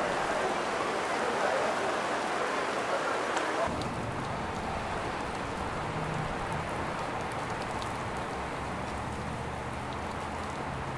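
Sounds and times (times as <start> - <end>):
rain falling: 0.0 - 10.9.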